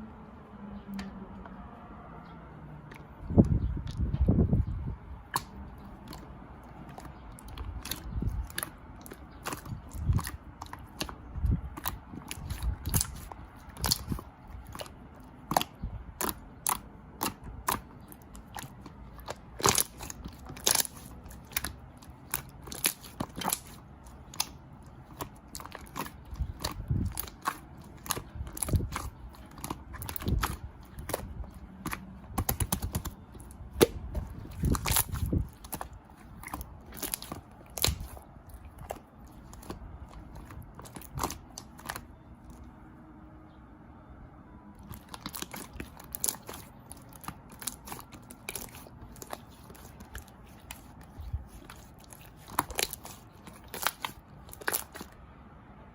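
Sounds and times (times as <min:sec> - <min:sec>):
crunchy chewing and biting: 0:05.3 - 0:42.7, 0:44.8 - 0:55.2.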